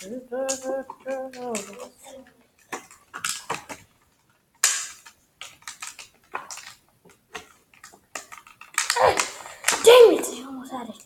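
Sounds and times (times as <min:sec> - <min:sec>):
plastic packaging crackling: 0:00.0 - 0:10.0.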